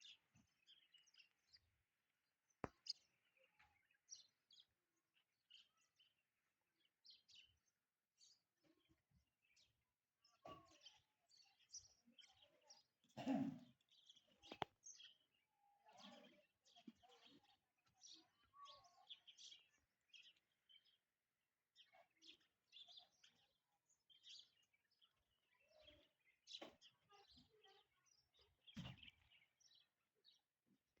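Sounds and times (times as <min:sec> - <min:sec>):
faint bird chirps: 0:00.0 - 0:31.0
quiet outdoor background noise: 0:00.0 - 0:31.0.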